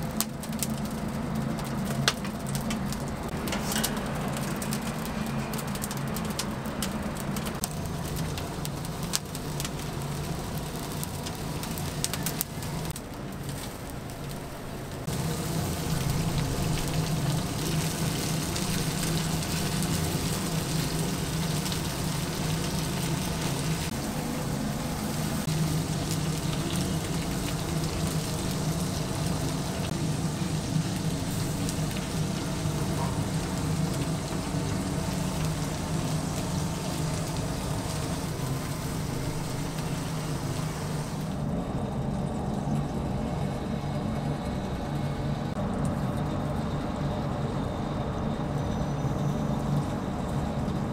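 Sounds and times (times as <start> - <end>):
chicken fat sizzling: 0.0 - 44.4
steady low hum: 0.0 - 50.9
wood fire crackling: 0.0 - 50.9.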